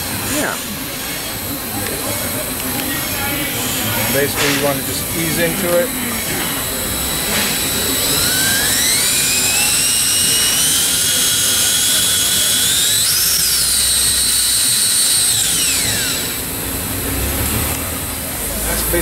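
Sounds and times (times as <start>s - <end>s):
cordless drill motor whine: 0.0s - 19.0s.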